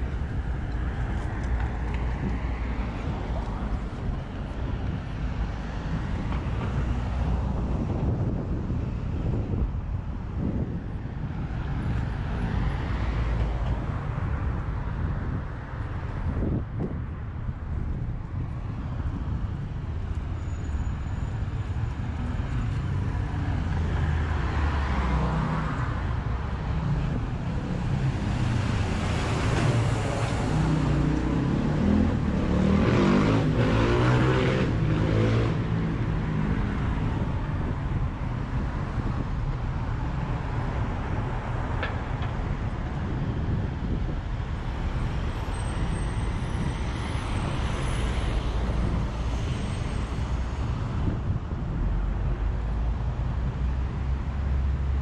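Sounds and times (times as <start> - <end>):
cars passing on street: 0.0 - 55.0.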